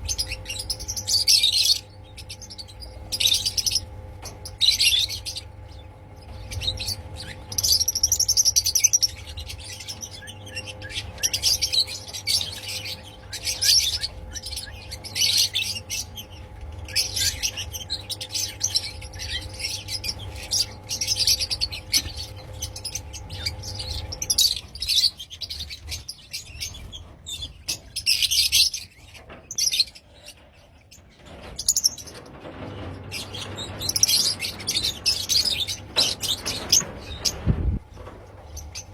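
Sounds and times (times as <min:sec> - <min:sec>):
lovebirds chirping: 0:00.0 - 0:32.2.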